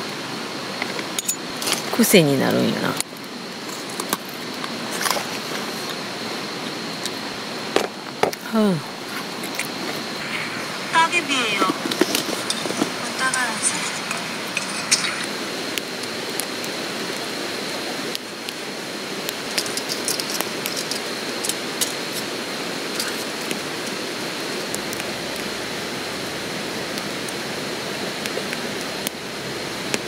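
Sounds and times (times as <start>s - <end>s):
campfire crackling and popping: 0.0s - 30.0s
steady rushing like water: 0.0s - 30.0s.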